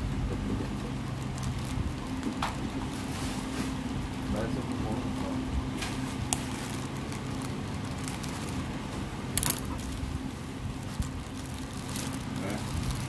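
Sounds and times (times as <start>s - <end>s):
steady low hum: 0.0s - 13.0s
packing tape crackling: 0.7s - 13.0s.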